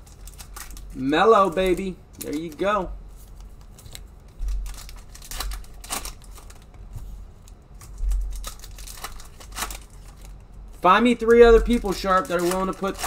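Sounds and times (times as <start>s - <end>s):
plastic wrappers crinkling and tearing: 0.0s - 13.0s.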